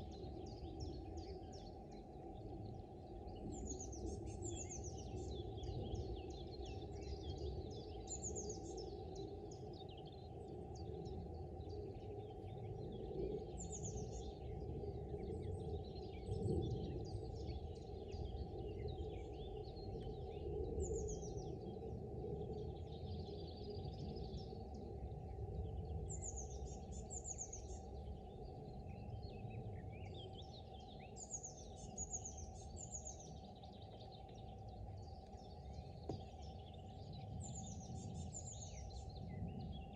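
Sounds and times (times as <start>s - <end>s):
low background rumble: 0.0s - 39.9s
small birds chirping: 0.0s - 39.9s.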